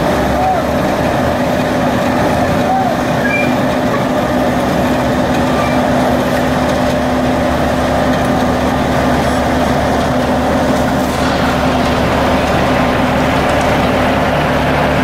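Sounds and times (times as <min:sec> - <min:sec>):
asphalt paver engine drone: 0:00.0 - 0:15.0.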